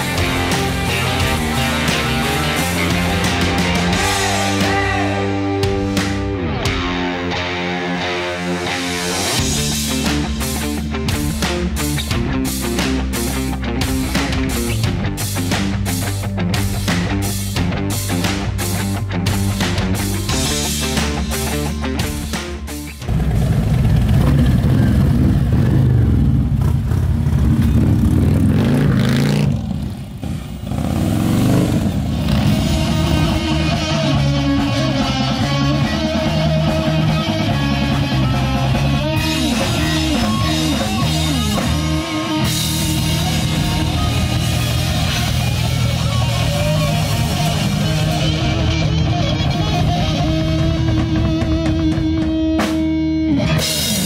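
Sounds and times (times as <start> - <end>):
distorted electric guitar: 0.0 - 30.0, 30.7 - 54.0
bass guitar: 0.0 - 54.0
drum kit: 0.0 - 54.0.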